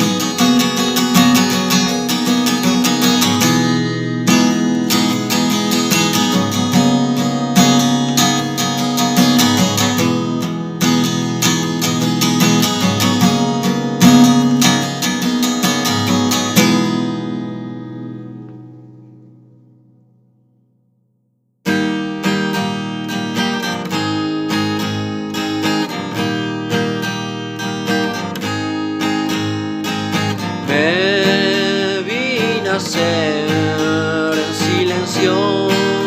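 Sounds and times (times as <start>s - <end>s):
acoustic guitar strumming chords: 0.0s - 36.0s.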